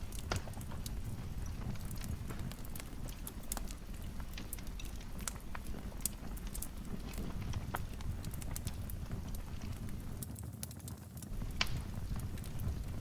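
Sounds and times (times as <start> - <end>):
fire crackling in a fireplace: 0.0 - 13.0.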